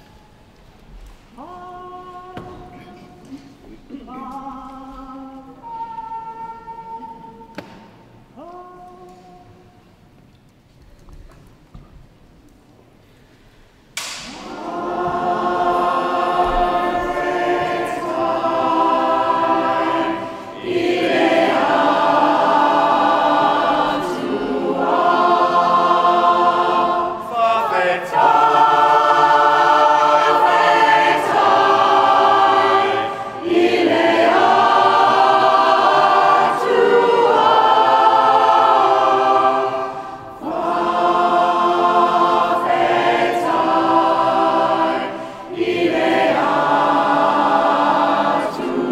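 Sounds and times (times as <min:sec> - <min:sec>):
choir singing a cappella hymn: 0:01.4 - 0:08.1, 0:13.4 - 0:48.9.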